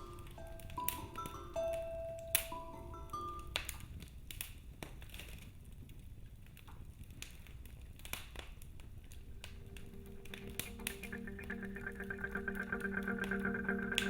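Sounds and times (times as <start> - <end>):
low steady fire rumble: 0.0 - 14.0
wood fire crackling and popping: 0.0 - 14.0.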